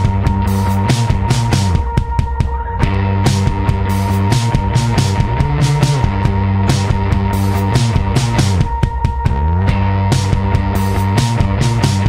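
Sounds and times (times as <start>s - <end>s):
drum beat: 0.0s - 12.0s
loud rock music: 0.0s - 12.0s.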